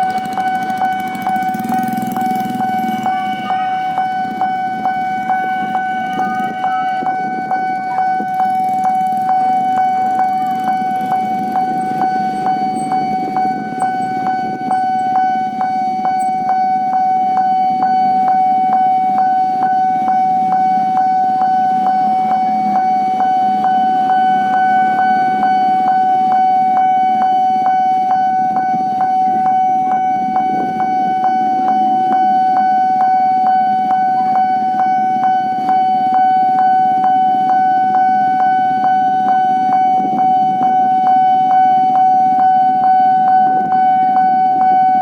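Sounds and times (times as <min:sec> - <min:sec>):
level crossing warning bell: 0:00.0 - 0:45.0.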